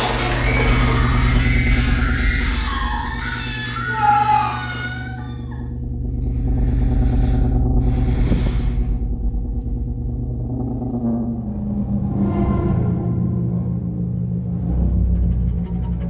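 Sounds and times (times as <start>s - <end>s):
low rumbling drone: 0.0s - 16.0s.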